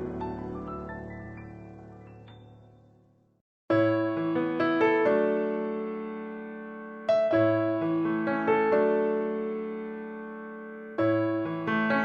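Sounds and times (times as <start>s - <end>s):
slow piano notes ringing: 0.0s - 3.0s, 3.7s - 12.0s.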